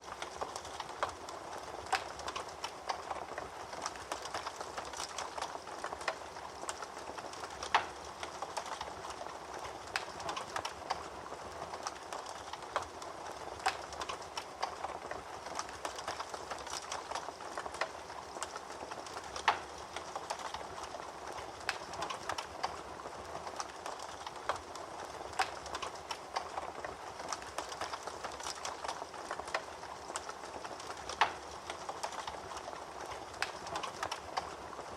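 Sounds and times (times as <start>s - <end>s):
fire crackling and popping: 0.0s - 34.9s.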